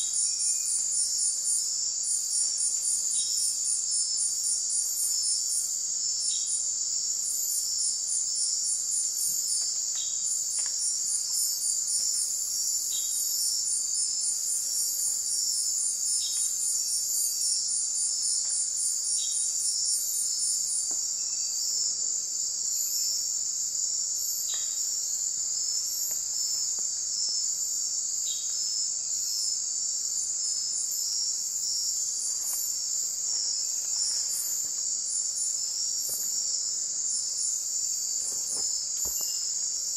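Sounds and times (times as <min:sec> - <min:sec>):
crickets trilling: 0:00.0 - 0:39.9
fast pulsing insect chirp: 0:00.0 - 0:39.9.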